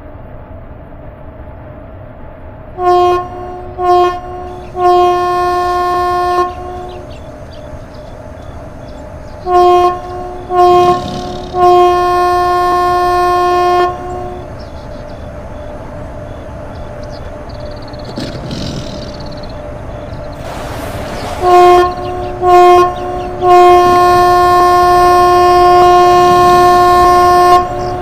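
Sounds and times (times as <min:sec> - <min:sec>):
rumble of approaching train: 0:00.0 - 0:28.0
train horn blasts: 0:02.7 - 0:17.7, 0:19.5 - 0:28.0.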